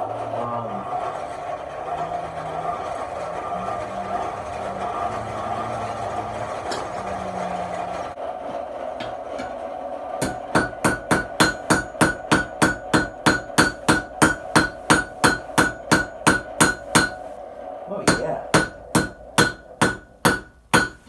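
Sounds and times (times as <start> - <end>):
forge noise: 0.0 - 21.0.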